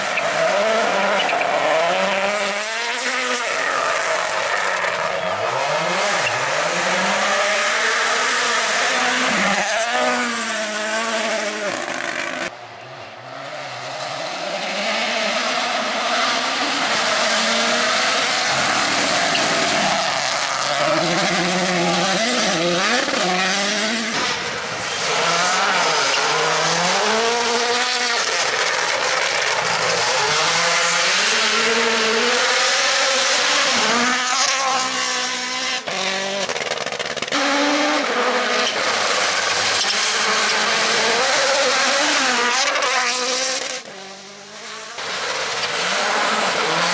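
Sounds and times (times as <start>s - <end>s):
rally car engines revving: 0.0s - 46.9s.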